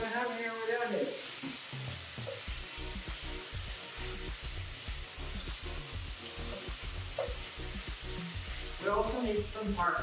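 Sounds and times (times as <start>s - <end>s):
chicken sizzling in a pan: 0.0s - 10.0s
background music: 1.7s - 10.0s.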